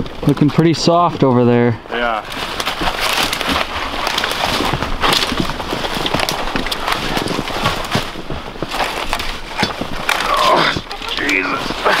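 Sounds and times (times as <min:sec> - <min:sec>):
footsteps crunching through snow: 0:00.5 - 0:12.0.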